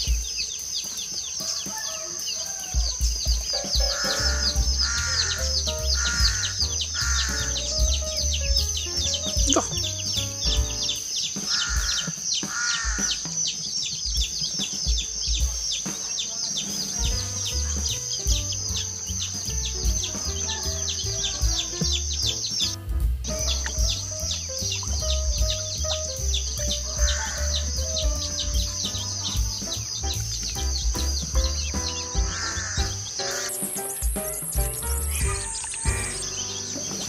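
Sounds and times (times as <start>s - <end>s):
music with bass beat: 0.0s - 1.5s, 2.6s - 12.2s, 14.0s - 16.1s, 16.9s - 37.0s
rapid high chirping: 0.0s - 37.0s.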